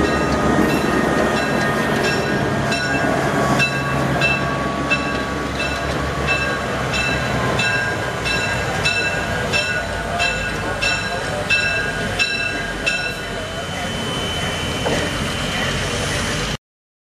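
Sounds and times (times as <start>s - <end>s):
locomotive bell ringing: 0.0s - 16.0s
locomotive engine rumbling: 0.0s - 16.6s.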